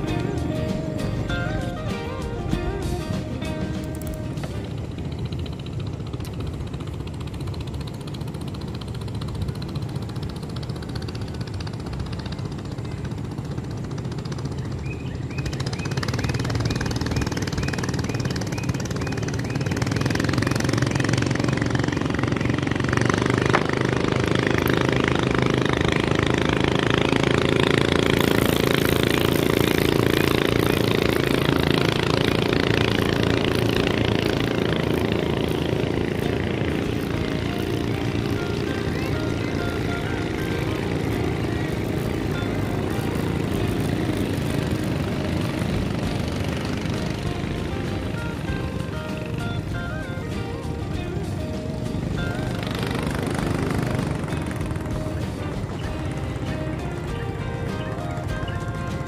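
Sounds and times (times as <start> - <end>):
boat engine knocking: 0.0 - 59.0.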